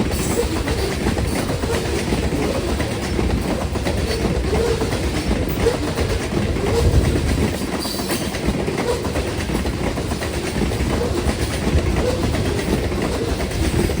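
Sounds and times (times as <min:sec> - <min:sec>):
train rumbling and rattling past: 0:00.0 - 0:14.0.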